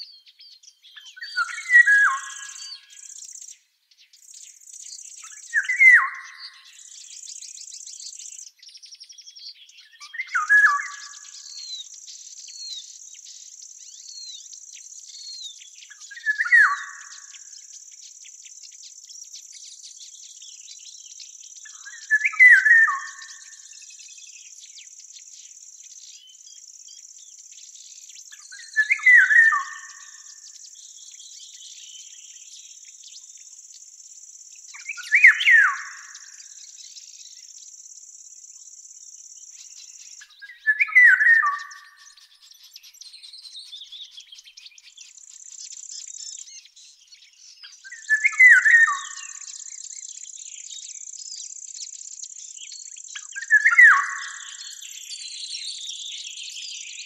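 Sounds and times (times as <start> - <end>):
high-pitched insect trill: 1.2 - 3.6, 4.2 - 57.0.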